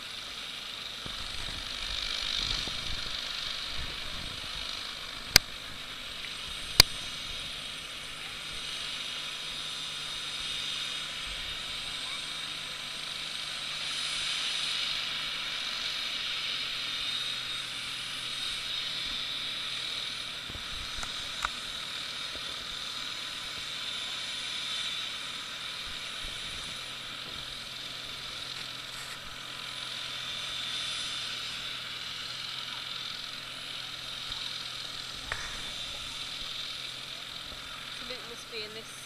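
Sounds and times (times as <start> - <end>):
helicopter rotor whining hiss: 0.0 - 39.0.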